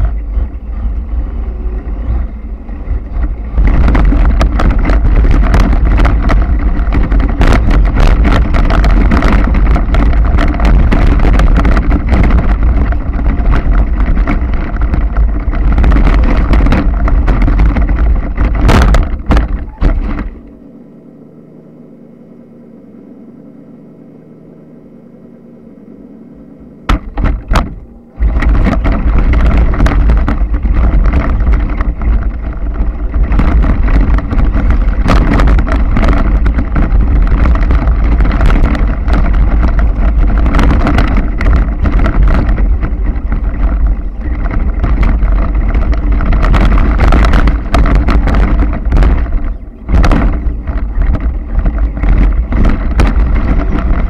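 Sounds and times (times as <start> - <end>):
rattles and knocks: 0.0 - 20.5, 26.8 - 54.0
rc truck driving over rough ground: 0.0 - 54.0.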